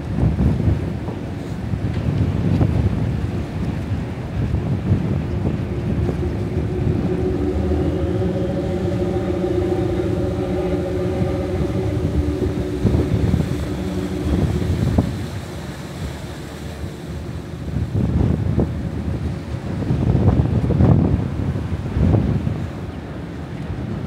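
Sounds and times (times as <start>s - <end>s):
wind buffeting microphone: 0.0s - 23.2s
ship engine drone: 3.0s - 23.9s.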